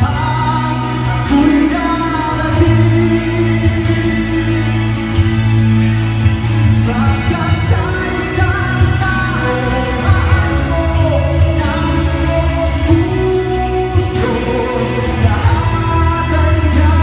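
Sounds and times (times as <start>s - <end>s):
man singing into a microphone: 0.0s - 5.8s, 6.6s - 17.0s
amplified music with heavy bass: 0.0s - 17.0s.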